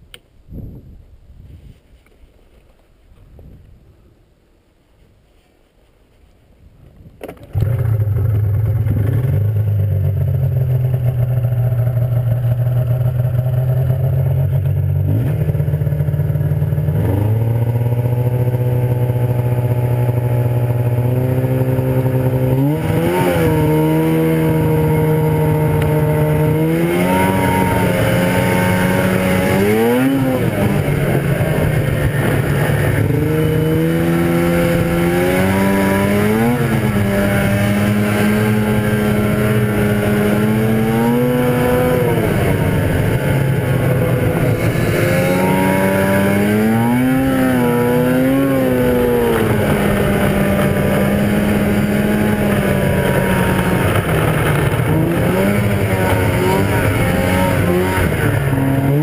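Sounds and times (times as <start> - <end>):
snowmobile engine idling and revving: 7.4 - 59.0.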